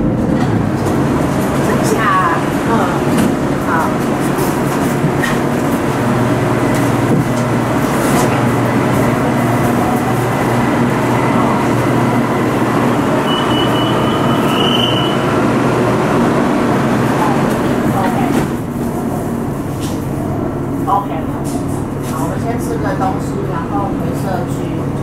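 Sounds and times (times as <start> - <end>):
train rumble and hum: 0.0 - 25.0.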